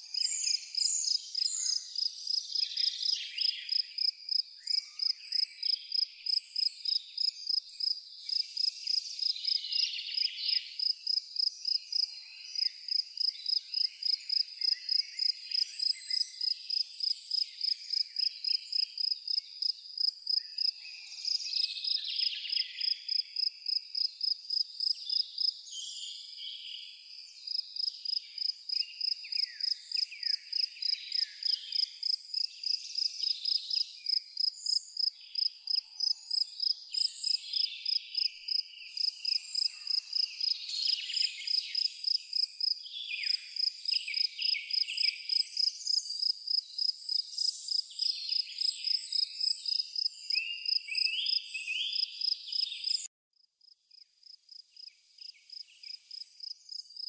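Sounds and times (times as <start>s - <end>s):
birds singing: 0.0s - 23.4s, 24.8s - 53.1s
cricket chirping: 0.0s - 25.6s, 26.3s - 57.0s.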